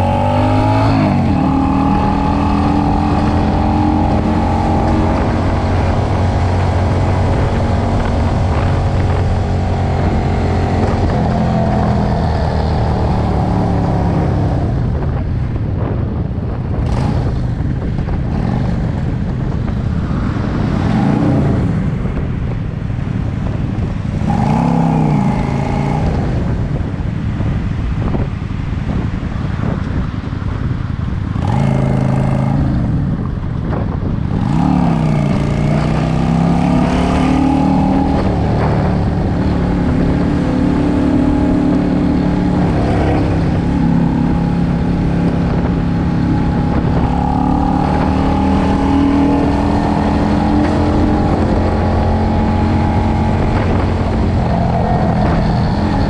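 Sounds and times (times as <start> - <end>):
motorcycle engine revving: 0.0 - 15.3, 16.7 - 22.6, 23.2 - 27.0, 30.8 - 56.0
wind rumble on microphone: 0.0 - 56.0.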